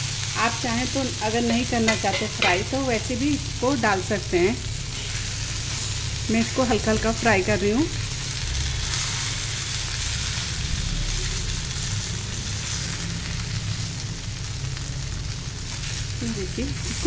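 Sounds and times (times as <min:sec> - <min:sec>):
dumplings sizzling in oil: 0:00.0 - 0:17.0.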